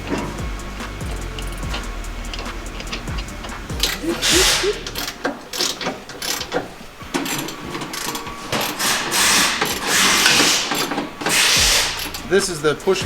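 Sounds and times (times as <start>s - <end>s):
rushing bursts: 0.0s - 13.0s
socket ratchet clicking: 0.0s - 13.0s.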